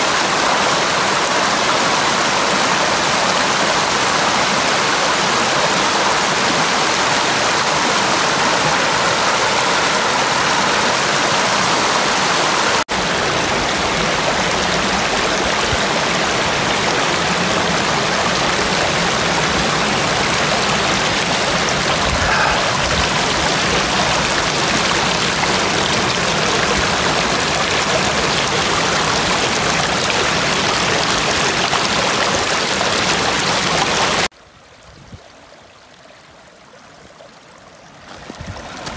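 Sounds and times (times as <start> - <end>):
stream rushing over stones: 0.0 - 34.3, 35.2 - 38.9.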